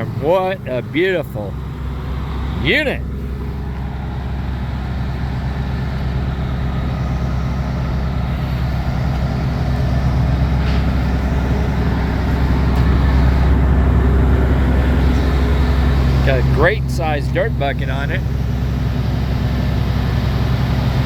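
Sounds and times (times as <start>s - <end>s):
excavator diesel engine rumble: 0.0s - 21.0s.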